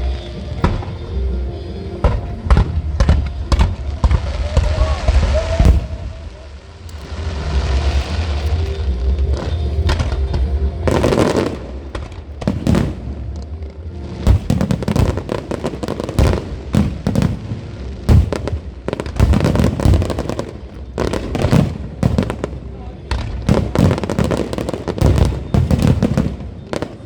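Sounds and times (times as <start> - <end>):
low rumble: 0.0 - 24.0
fireworks bangs and crackling pops: 2.0 - 13.6, 14.2 - 27.0.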